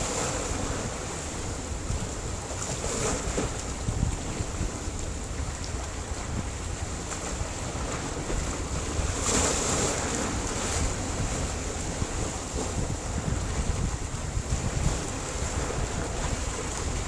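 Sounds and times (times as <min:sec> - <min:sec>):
waves washing on rocks: 0:00.0 - 0:17.0
wind rumble on microphone: 0:00.0 - 0:17.0.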